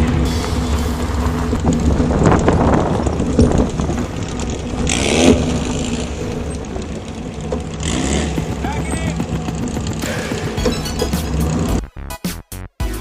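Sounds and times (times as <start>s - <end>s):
car engine running hard: 0.0s - 11.8s
knocks and rattles: 0.0s - 11.8s.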